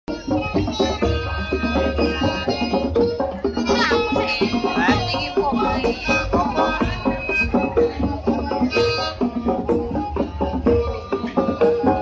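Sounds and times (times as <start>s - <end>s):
loud music with drums and bass: 0.1s - 12.0s.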